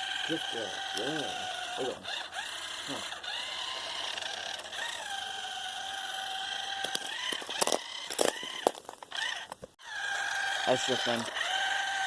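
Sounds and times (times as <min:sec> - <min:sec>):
toy car electric motor whining: 0:00.0 - 0:12.0.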